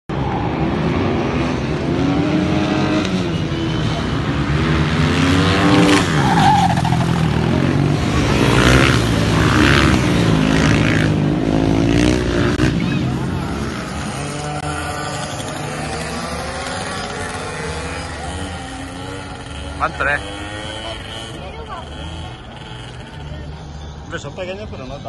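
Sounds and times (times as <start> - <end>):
racing motorcycle engines revving: 0.1 - 25.0.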